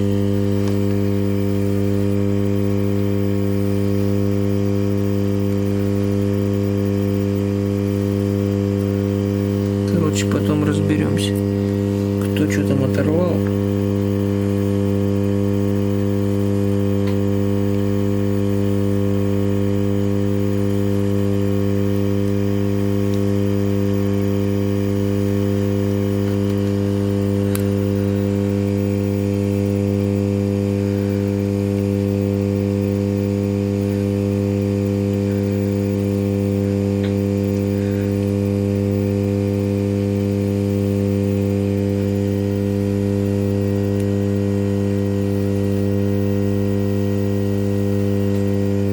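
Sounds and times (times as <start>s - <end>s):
hot-air station electrical hum: 0.0s - 48.9s.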